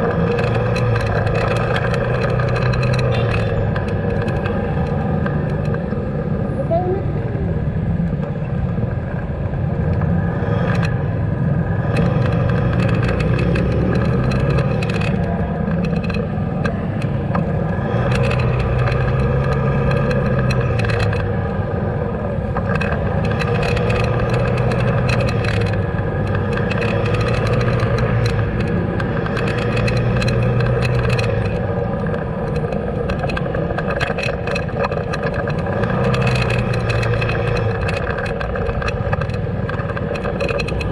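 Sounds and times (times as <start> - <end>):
clicks and rattles: 0.0 - 6.2, 9.9 - 21.6, 22.4 - 40.9
motorcycle engine revving: 0.0 - 40.9.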